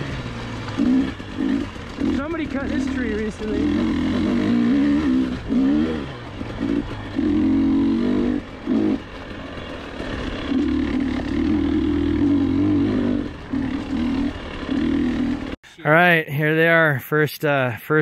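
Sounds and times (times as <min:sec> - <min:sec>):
dirt bike engine revving: 0:00.0 - 0:15.6.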